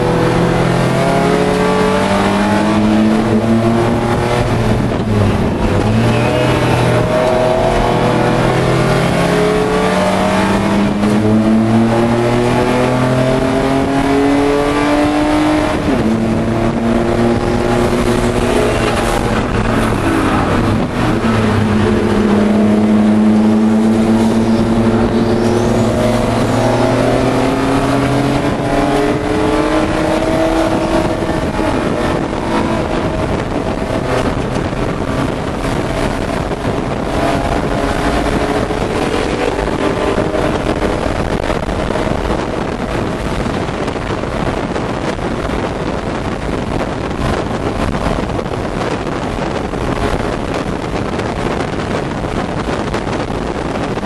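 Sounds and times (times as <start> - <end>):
race car engine accelerating: 0.0 - 54.0
wind and road noise: 0.0 - 54.0.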